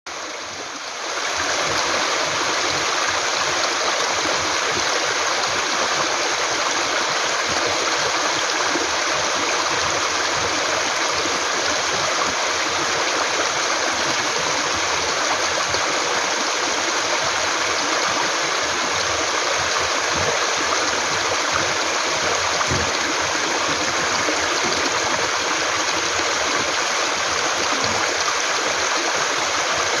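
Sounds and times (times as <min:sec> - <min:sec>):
mountain stream flowing: 0:00.1 - 0:30.0.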